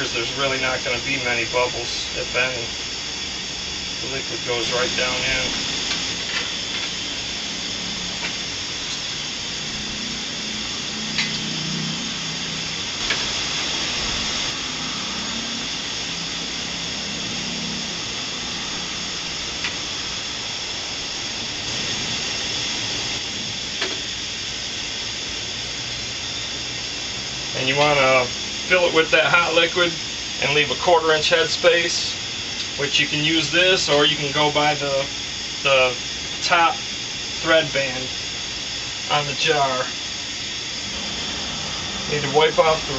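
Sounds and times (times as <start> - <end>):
cooker hissing: 0.0 - 42.9
liquid boiling in a pot: 0.0 - 42.9.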